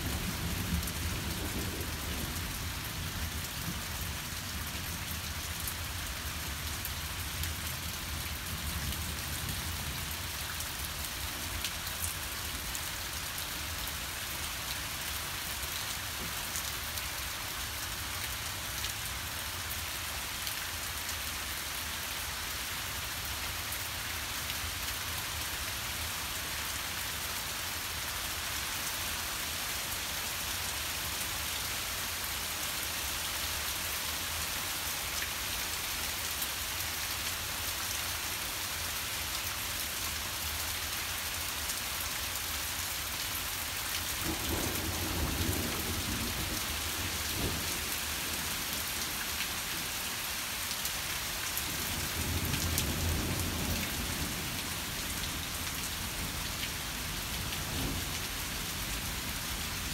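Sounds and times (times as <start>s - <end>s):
heavy rain pouring: 0.0s - 21.8s, 22.4s - 59.9s.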